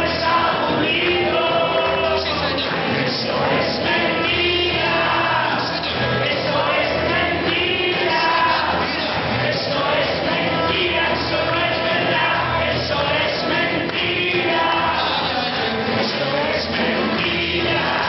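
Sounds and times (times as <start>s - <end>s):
congregation singing praise song: 0.0s - 18.0s.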